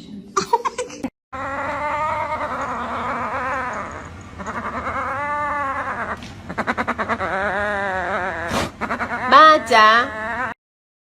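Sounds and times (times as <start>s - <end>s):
animal's wavering cry: 1.4s - 10.6s.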